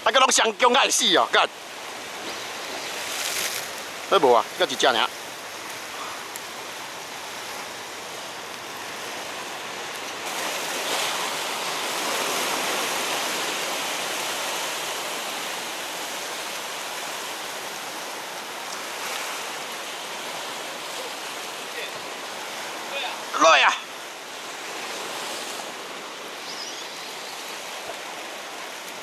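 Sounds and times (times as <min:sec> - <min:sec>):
sea waves washing over rocks: 0:00.1 - 0:26.4.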